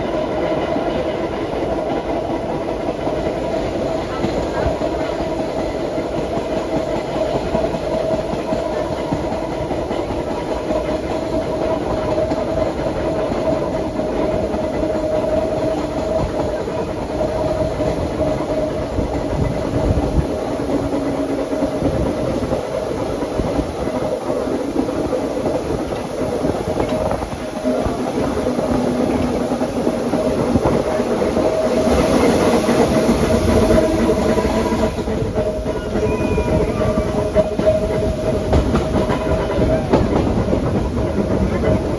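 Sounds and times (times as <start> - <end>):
train rumble: 0.0 - 41.9
wheels clacking over rail joints: 0.0 - 41.9.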